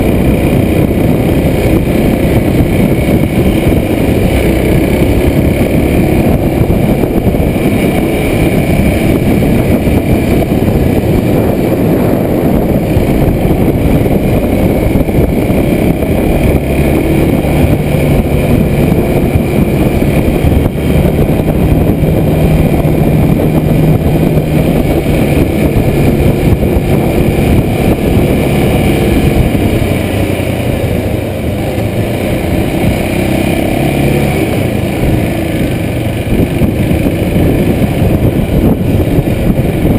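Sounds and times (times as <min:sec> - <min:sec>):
motorcycle engine climbing uphill: 0:00.0 - 0:39.9
wind noise on microphone: 0:00.0 - 0:39.9.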